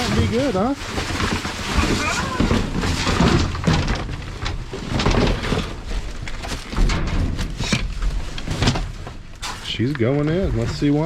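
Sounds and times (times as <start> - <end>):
bags rustling and crinkling: 0.0 - 11.0.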